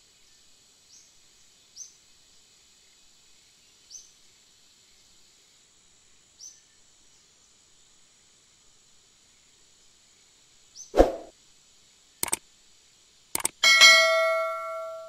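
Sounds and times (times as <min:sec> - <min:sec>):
insect hiss: 0:00.0 - 0:13.5.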